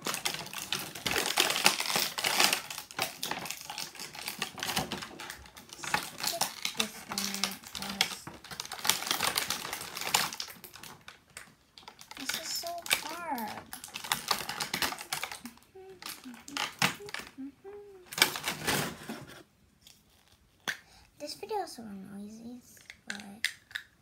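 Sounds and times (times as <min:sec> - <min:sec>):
plastic packaging crinkling: 0:00.0 - 0:20.6.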